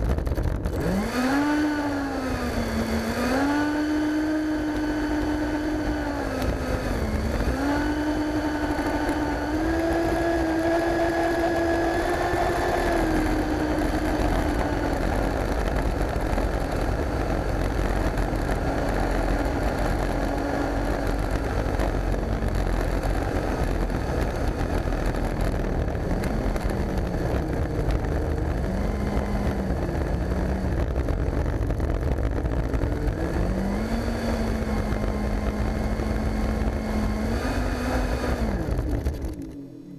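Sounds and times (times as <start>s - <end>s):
low rumble: 0.0s - 1.0s, 4.4s - 37.4s
electric ducted fan whining: 0.0s - 39.9s.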